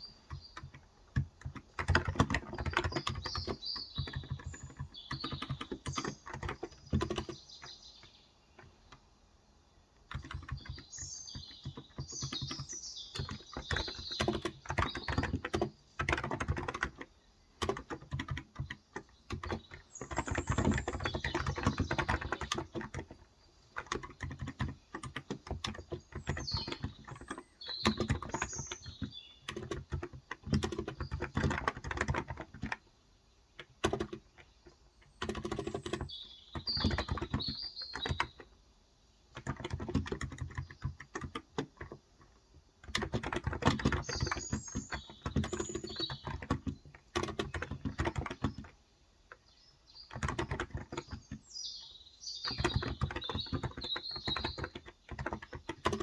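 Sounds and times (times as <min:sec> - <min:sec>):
fast typing on keyboard: 0:00.0 - 0:07.8, 0:10.0 - 0:32.9, 0:33.5 - 0:38.6, 0:39.3 - 0:49.4, 0:50.0 - 0:51.6, 0:52.4 - 0:56.0
birds chirping: 0:00.0 - 0:56.0.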